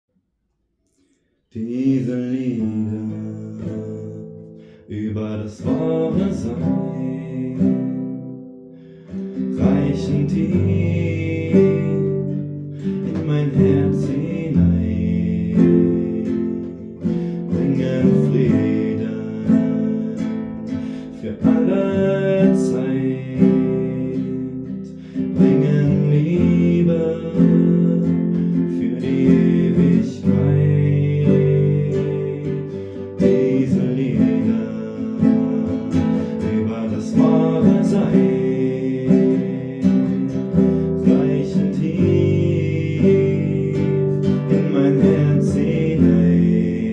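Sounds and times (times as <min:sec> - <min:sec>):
acoustic guitar strumming and plucking: 0:01.6 - 0:46.9.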